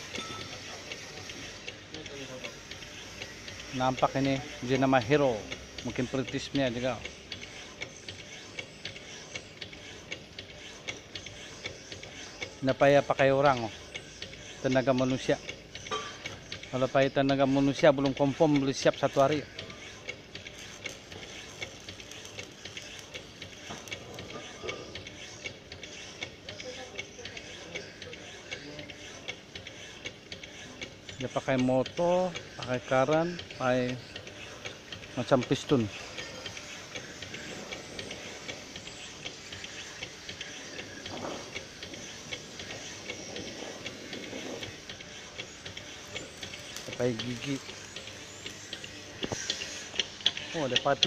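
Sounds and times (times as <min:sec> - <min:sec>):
power hacksaw sawing steel: 0:00.0 - 0:51.0.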